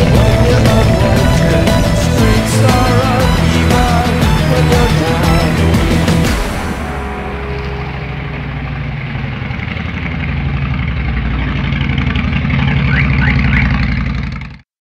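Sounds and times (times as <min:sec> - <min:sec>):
motorcycle engine pulsing: 0:00.0 - 0:14.6.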